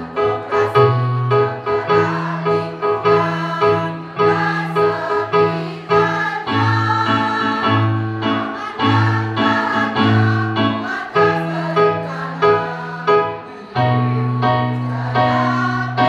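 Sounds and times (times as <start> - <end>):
electronic keyboard accompaniment: 0.0 - 16.0
women's choir singing a march: 0.1 - 16.0.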